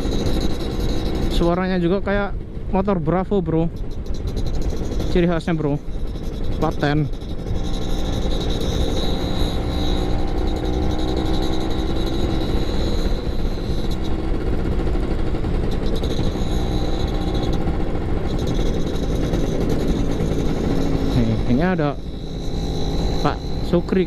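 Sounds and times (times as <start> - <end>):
two-stroke motorcycle engine: 0.0 - 24.0.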